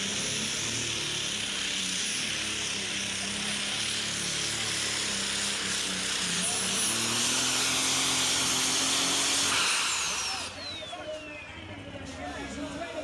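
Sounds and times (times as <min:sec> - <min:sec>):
diesel engine and turbo whine: 0:00.0 - 0:13.0.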